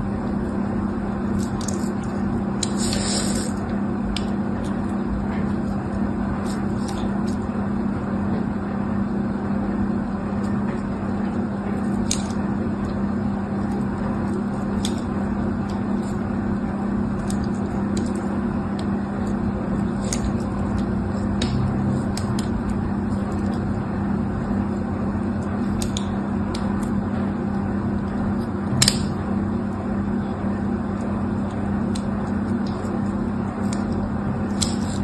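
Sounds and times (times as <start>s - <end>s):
low hum and hiss: 0.0s - 35.0s.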